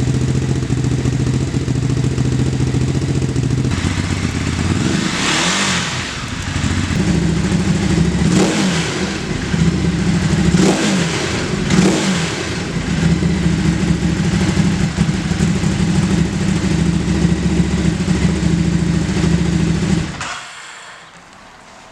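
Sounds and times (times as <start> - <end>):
motorcycle engine revving and idling: 0.0 - 20.3.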